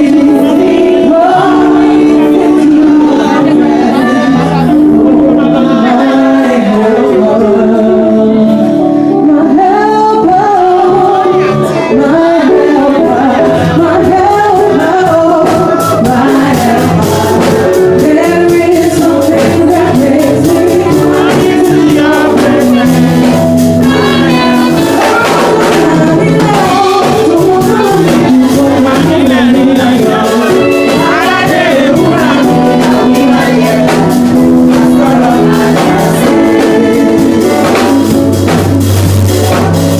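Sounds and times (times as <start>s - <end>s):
instrumental accompaniment: 0.0s - 39.9s
voices singing worship: 0.0s - 39.9s.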